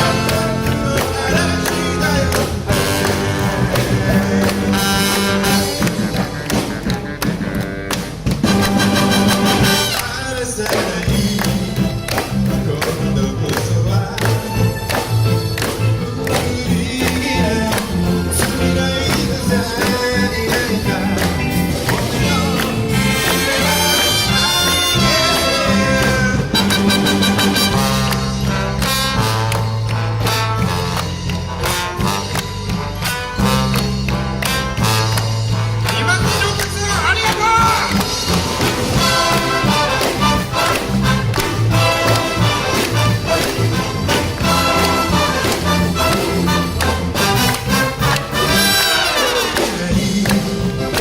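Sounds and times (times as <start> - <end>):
big band playing live: 0.0 - 51.0.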